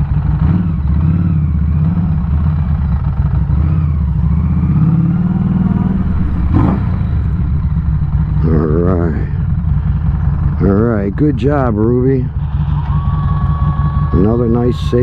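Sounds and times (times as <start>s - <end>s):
motorcycle engine at low speed: 0.0s - 15.0s.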